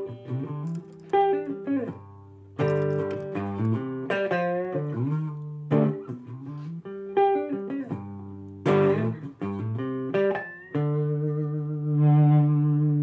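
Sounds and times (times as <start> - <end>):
picked guitar chords ringing: 0.0 - 13.0.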